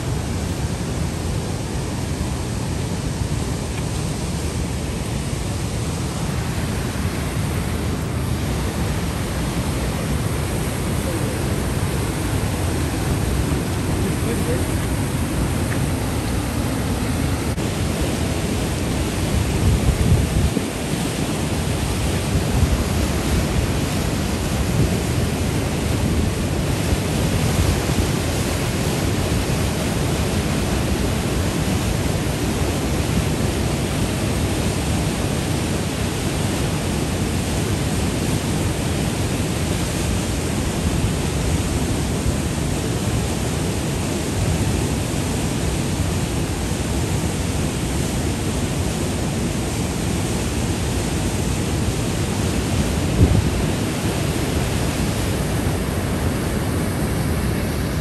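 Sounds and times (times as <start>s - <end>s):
river water rushing over rapids: 0.0s - 58.0s.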